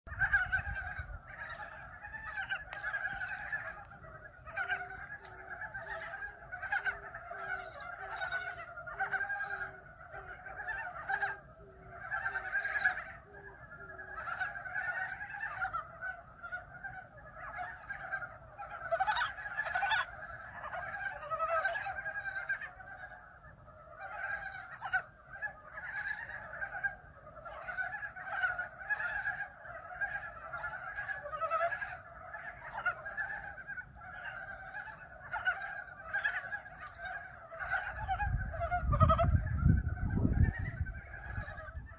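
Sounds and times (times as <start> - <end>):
chorus of frogs croaking: 0.0 - 41.9.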